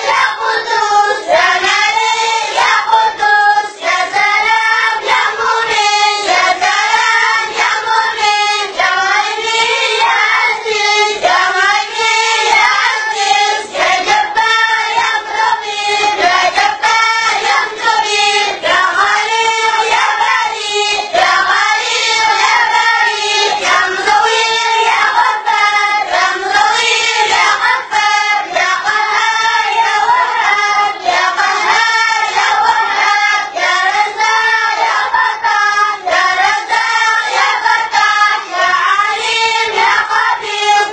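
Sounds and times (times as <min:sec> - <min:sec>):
boys singing in unison: 0:00.0 - 0:40.9.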